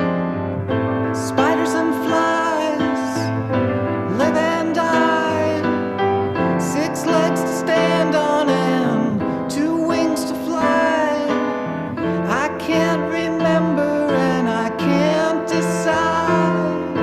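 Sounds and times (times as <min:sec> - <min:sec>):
piano: 0:00.0 - 0:17.0
person singing: 0:01.0 - 0:17.0.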